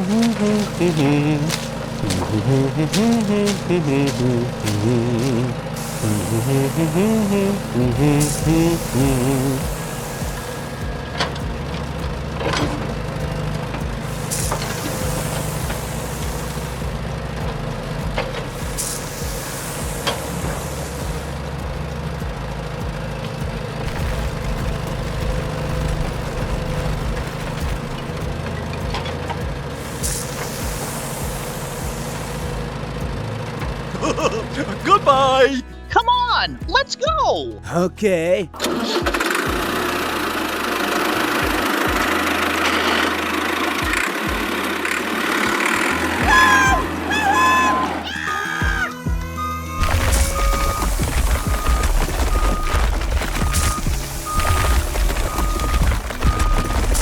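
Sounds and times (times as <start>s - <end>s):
engine idling: 0.0s - 35.9s, 38.6s - 47.1s, 49.1s - 57.0s.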